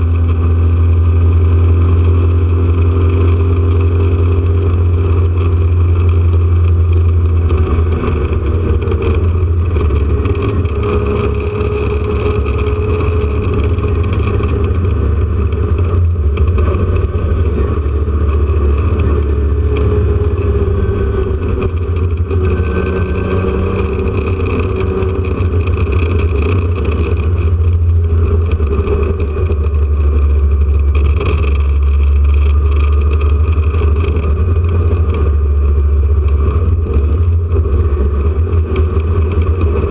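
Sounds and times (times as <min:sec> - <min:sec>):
racing car engine running hard: 0:00.0 - 0:39.9.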